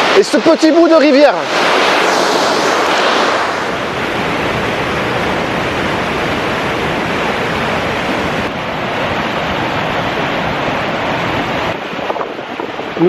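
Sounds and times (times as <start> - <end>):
water rushing through rapids: 0.0 - 13.0.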